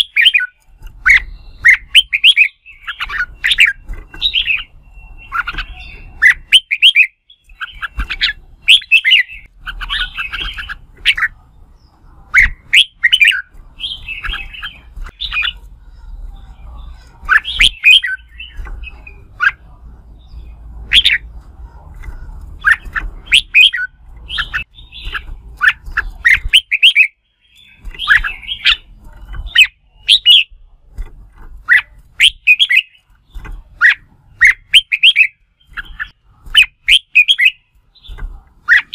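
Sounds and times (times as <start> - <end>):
bulbul singing whistled phrases: 0.0 - 21.4, 22.0 - 30.7, 31.6 - 38.9.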